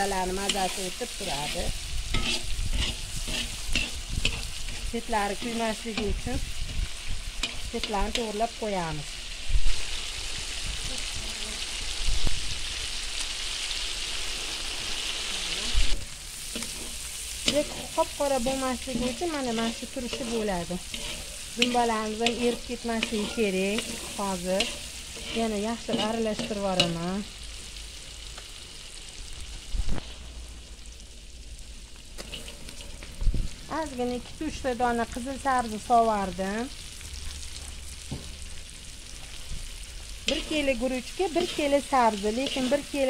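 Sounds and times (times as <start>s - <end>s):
meat and onions sizzling in oil: 0.0s - 43.0s.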